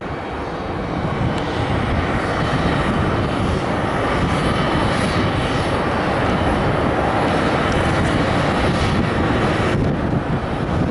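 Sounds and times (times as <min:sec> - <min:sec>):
jet engines roaring: 0:00.0 - 0:10.9.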